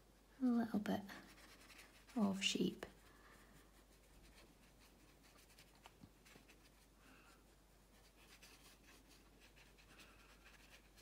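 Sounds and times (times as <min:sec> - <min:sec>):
brush strokes on paper: 0:00.8 - 0:11.0.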